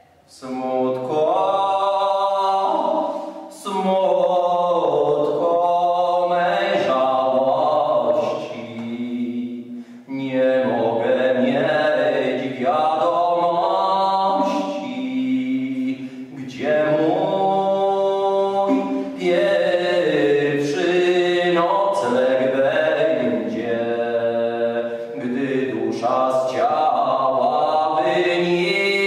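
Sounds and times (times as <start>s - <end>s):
unaccompanied voices chanting: 0.9s - 29.0s.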